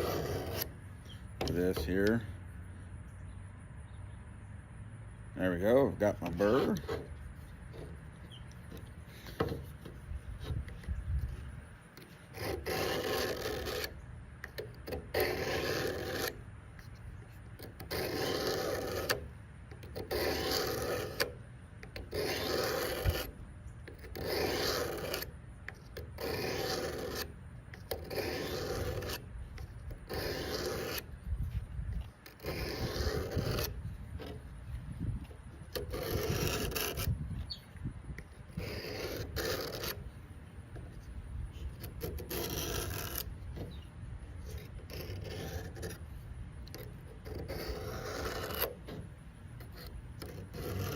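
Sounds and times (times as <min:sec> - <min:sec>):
knife scraping on sharpening rod: 0:00.0 - 0:02.2, 0:05.8 - 0:17.0, 0:17.6 - 0:31.2, 0:32.2 - 0:34.4, 0:35.2 - 0:40.1, 0:40.8 - 0:50.9.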